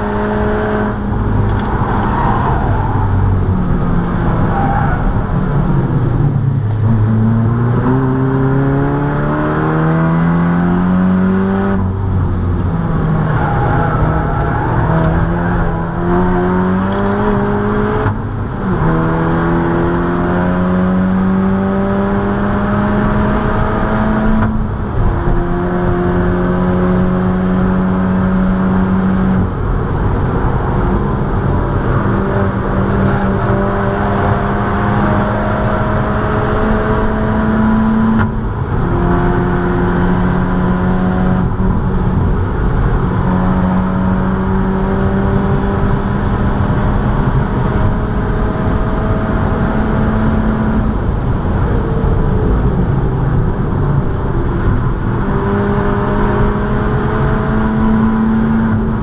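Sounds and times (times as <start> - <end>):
car engine pulling hard: 0.0 - 59.0
tyre and wind roar: 0.0 - 59.0.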